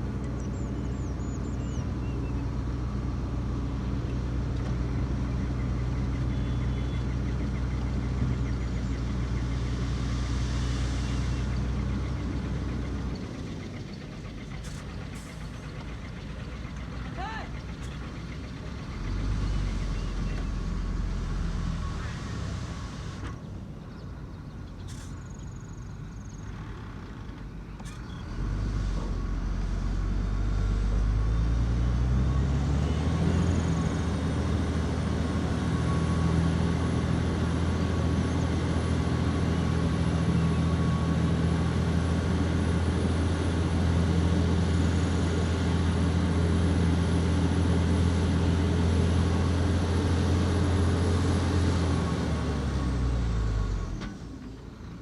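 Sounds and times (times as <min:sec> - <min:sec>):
heavy diesel engine revving: 0:00.0 - 0:23.7, 0:24.6 - 0:55.0.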